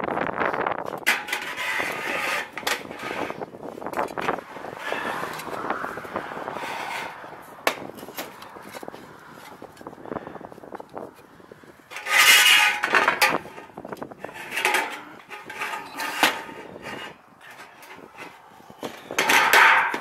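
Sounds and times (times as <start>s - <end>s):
sheet metal scraping on steel roof: 1.0s - 9.6s, 11.9s - 20.0s.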